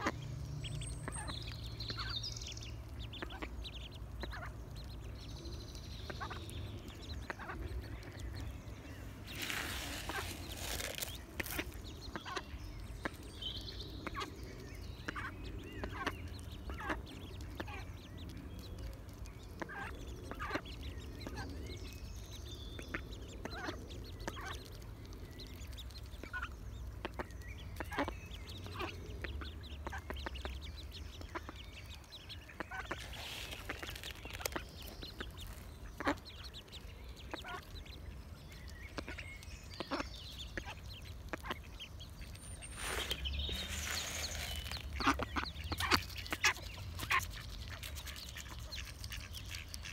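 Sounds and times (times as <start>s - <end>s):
high duckling peep: 0.0s - 49.9s.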